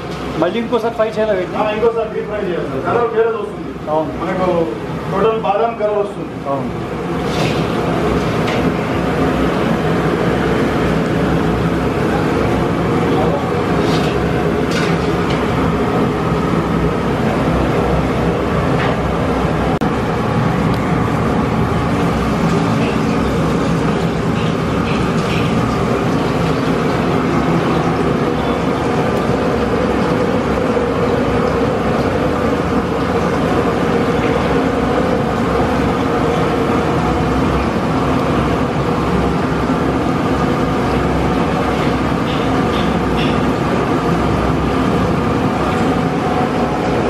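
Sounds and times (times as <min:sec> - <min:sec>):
food frying in hot oil: 0:00.0 - 0:47.0
gas burner roaring: 0:00.0 - 0:47.0.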